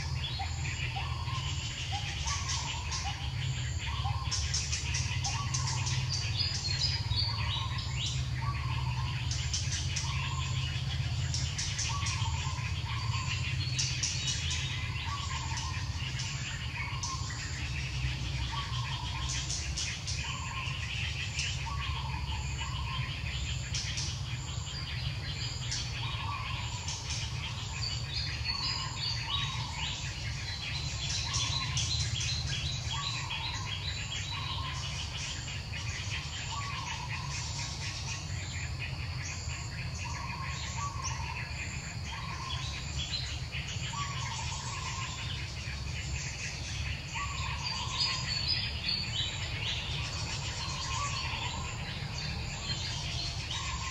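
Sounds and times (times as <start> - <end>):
birds and insects chirping: 0.0 - 53.9.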